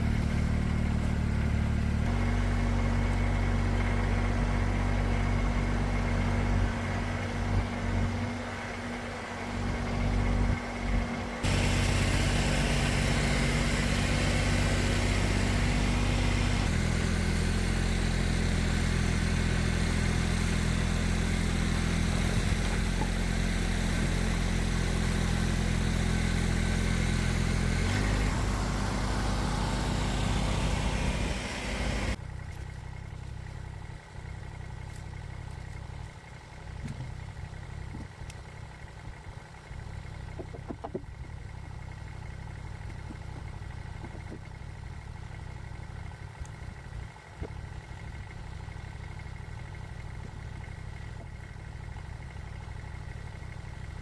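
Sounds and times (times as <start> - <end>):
quieter engine sound: 0.0 - 54.0
tractor engine running: 0.0 - 54.0.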